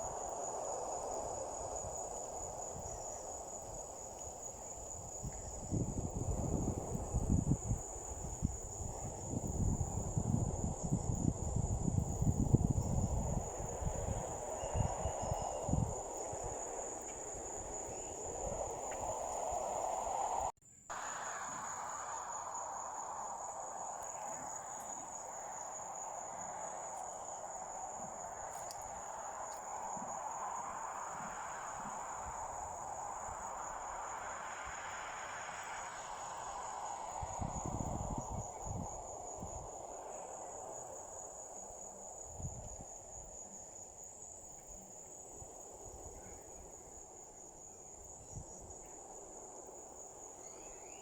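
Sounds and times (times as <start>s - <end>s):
insects trilling: 0.0s - 51.0s
soft rushing hiss: 0.0s - 51.0s.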